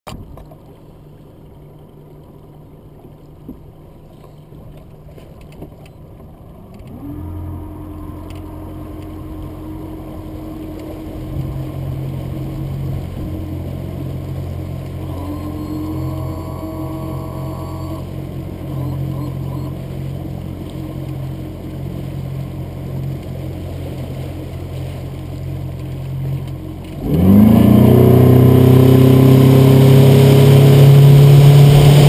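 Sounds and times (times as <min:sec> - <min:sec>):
outboard motor running: 0:00.1 - 0:32.0.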